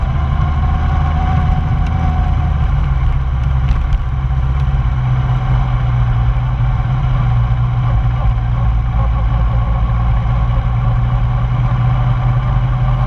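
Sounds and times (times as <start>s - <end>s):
motorcycle engine idling steadily: 0.0s - 13.0s.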